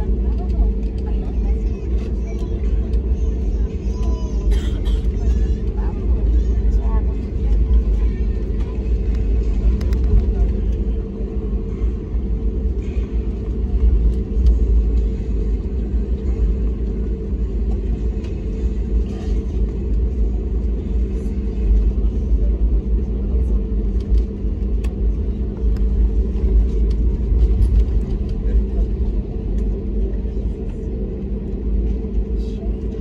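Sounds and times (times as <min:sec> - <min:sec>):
aircraft engines idling: 0:00.0 - 0:33.0.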